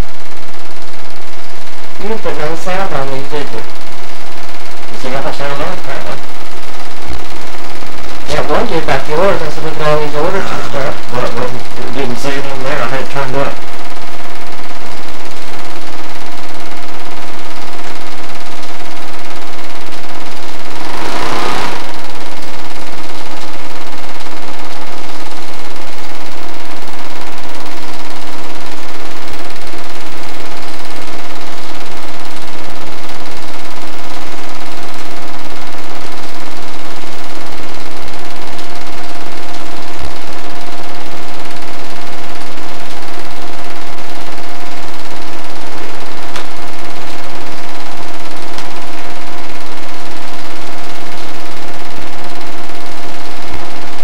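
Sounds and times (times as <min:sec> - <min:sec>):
burst of noise: 0:00.0 - 0:54.0.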